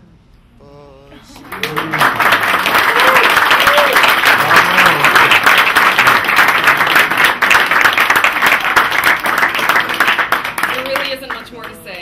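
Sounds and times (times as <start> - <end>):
people applauding: 1.3 - 11.9.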